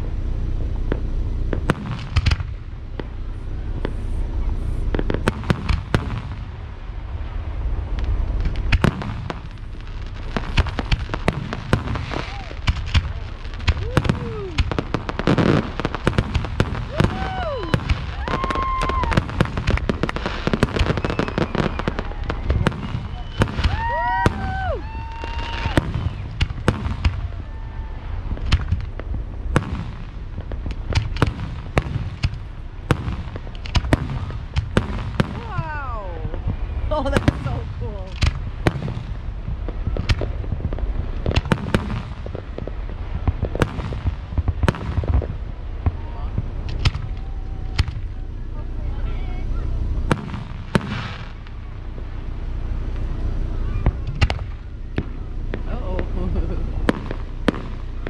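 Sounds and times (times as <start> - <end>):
firework shells bursting bangs: 0.0 - 7.0, 7.8 - 48.5, 50.0 - 52.2, 52.8 - 58.0
low steady rumble: 0.0 - 58.0.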